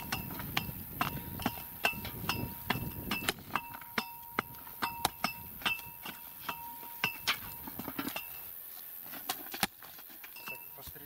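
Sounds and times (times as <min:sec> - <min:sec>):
stones clinking on metal: 0:00.0 - 0:11.0.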